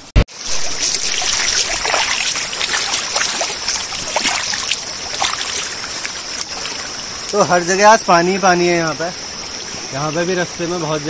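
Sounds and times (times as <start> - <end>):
stream burbling and splashing: 0.3 - 11.0.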